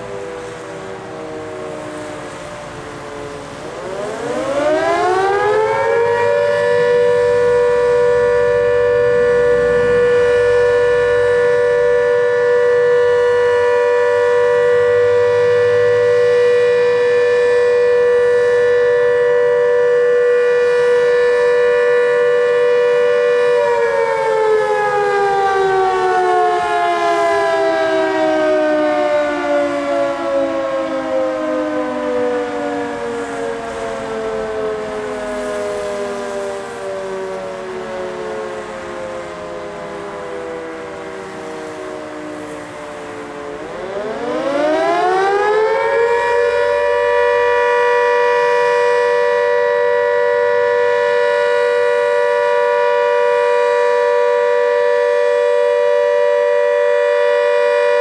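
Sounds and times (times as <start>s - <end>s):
motor-driven siren wailing: 0.0s - 58.0s.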